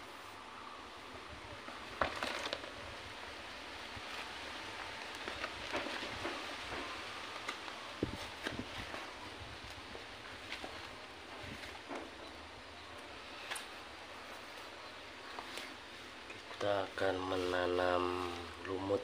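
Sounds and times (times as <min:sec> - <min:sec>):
background hiss: 0:00.0 - 0:02.0, 0:02.6 - 0:19.0.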